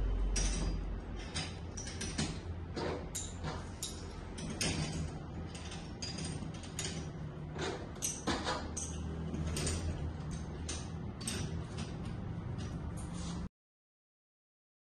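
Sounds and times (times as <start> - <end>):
metal fittings clicking and scraping: 0.3 - 13.5.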